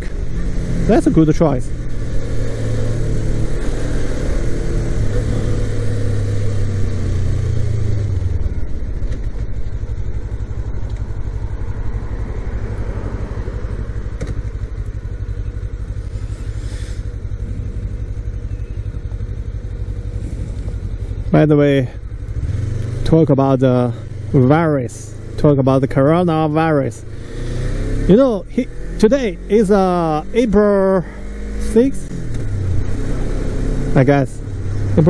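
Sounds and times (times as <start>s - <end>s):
motorcycle engine running: 0.0s - 35.0s
road and wind noise: 0.0s - 35.0s.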